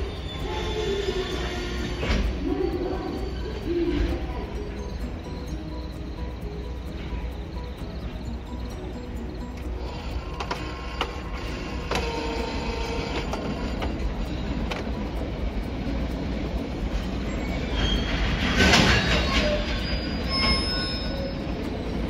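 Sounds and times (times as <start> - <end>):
metallic wheel squeal: 0.0 - 15.2, 17.2 - 22.0
train running on rails: 0.0 - 22.0.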